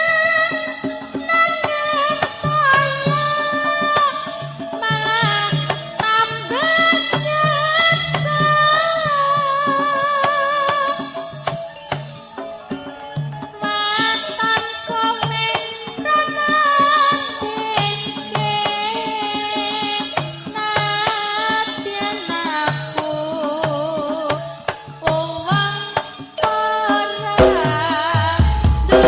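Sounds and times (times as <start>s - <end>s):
hand drum pattern: 0.0s - 29.0s.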